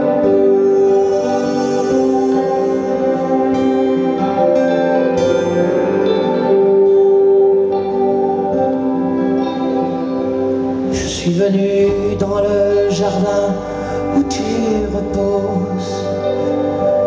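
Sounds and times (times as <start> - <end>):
acoustic guitar: 0.0 - 17.0
electric guitar: 0.0 - 17.0.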